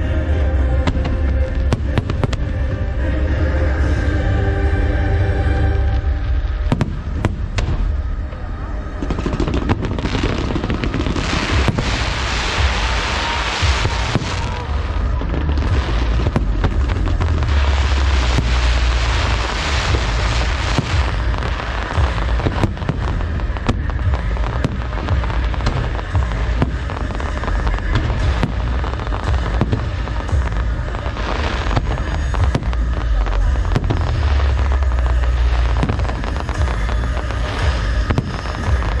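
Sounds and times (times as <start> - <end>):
fireworks bursting and crackling: 0.0 - 4.4, 5.6 - 39.0
deep firework booms: 5.9 - 39.0.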